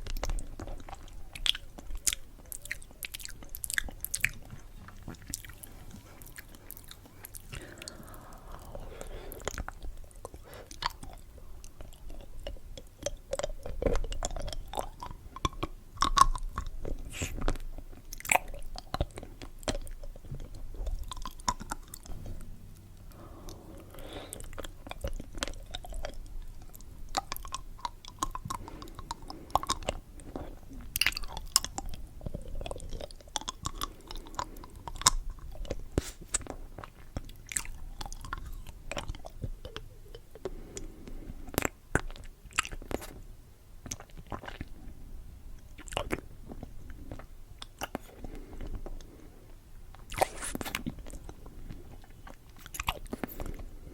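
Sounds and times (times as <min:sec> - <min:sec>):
chewing and crunching candy: 0:00.0 - 0:53.9.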